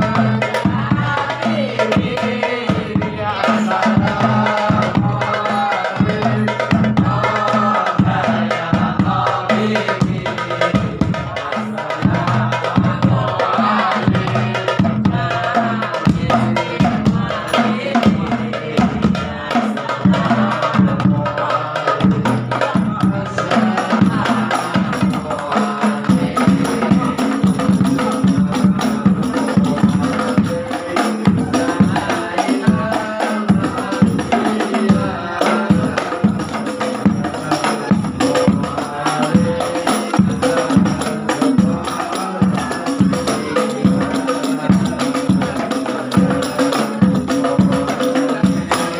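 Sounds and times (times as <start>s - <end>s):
frame drums struck by hand: 0.0s - 48.9s.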